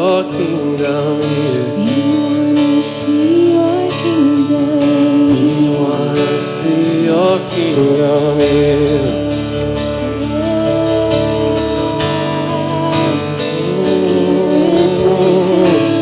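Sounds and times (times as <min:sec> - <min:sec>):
acoustic guitar chords: 0:00.0 - 0:16.0
person singing wordless melody: 0:00.0 - 0:16.0.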